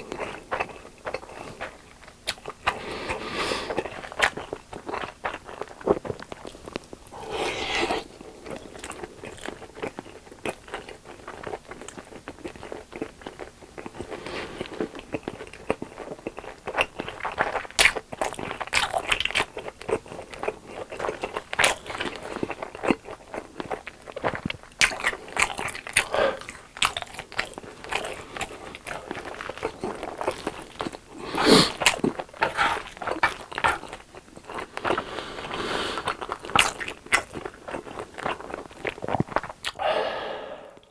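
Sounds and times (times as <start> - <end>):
crunching and wet chewing: 0.0 - 39.8.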